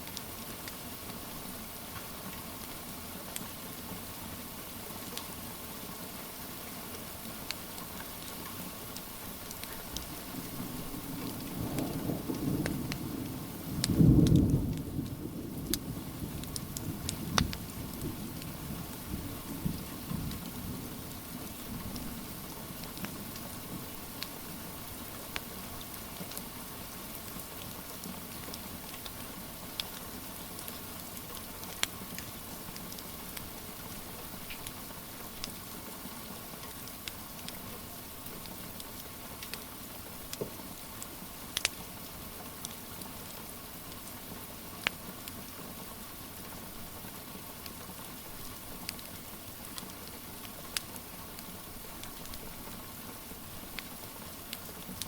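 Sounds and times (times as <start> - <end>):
crackling wood fire: 0.0 - 55.0
rain hiss: 0.0 - 55.0.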